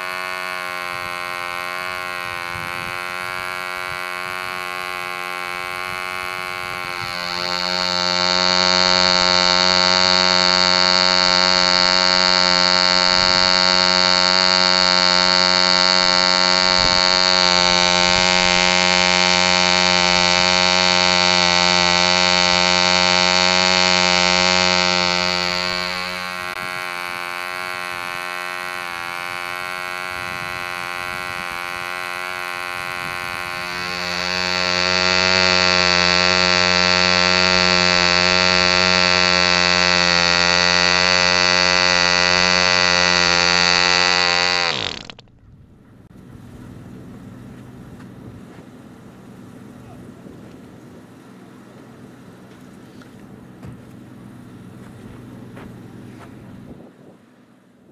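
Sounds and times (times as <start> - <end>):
model diesel engine running: 0.0 - 57.7.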